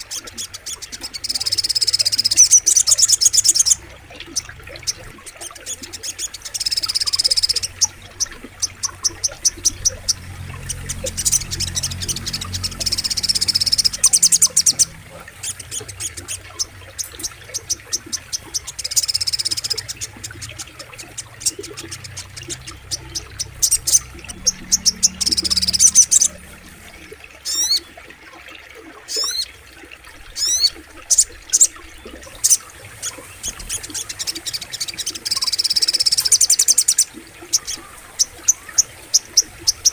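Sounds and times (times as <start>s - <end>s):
bird chips and buzzy trills: 0.0s - 39.9s
low rumble of flowing water: 0.0s - 39.9s.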